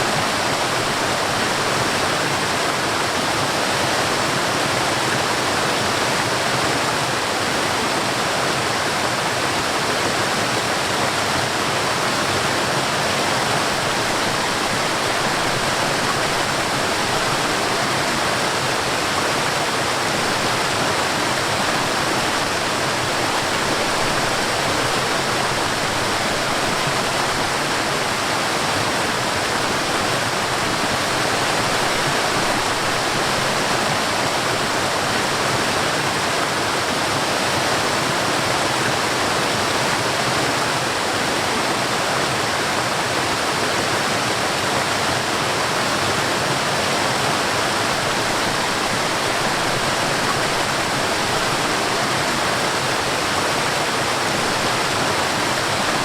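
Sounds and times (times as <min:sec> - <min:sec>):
water cascading down a stream: 0:00.0 - 0:56.0.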